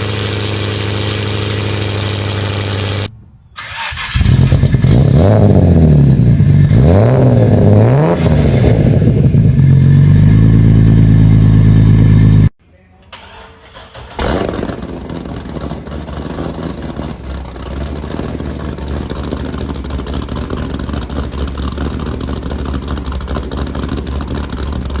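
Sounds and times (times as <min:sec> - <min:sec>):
car engine starting and idling: 0:00.0 - 0:25.0.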